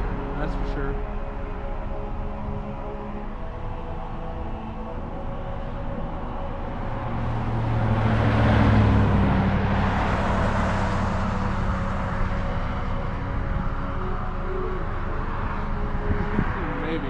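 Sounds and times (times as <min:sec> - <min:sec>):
vehicle engine and tyre noise: 0:00.0 - 0:17.0.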